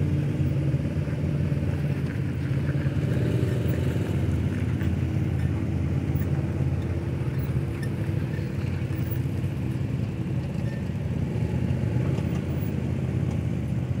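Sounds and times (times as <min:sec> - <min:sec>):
utility vehicle engines droning: 0:00.0 - 0:14.0.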